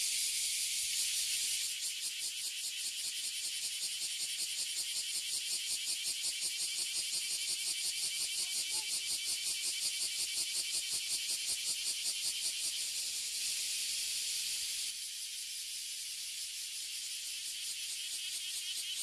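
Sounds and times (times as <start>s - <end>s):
cicadas pulsing buzz: 0.0s - 19.0s
cicadas sizzling hiss: 0.0s - 19.0s.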